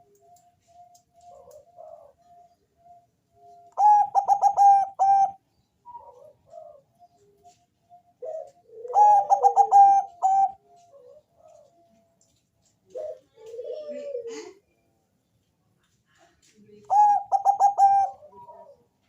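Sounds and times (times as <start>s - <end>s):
dove cooing: 0.0s - 12.1s, 12.8s - 14.6s, 16.8s - 19.0s.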